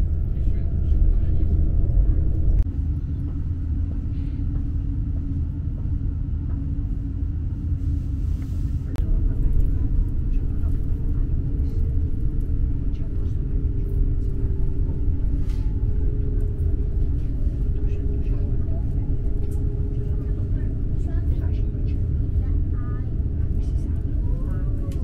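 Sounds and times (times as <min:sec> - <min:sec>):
steady low hum: 0:00.0 - 0:25.0
train wheels rumbling on track: 0:00.0 - 0:25.0.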